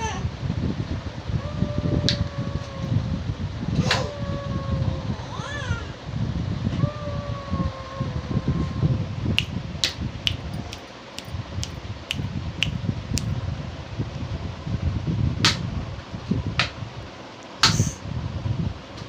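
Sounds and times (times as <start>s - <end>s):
low wind rumble on microphone: 0.0s - 19.0s.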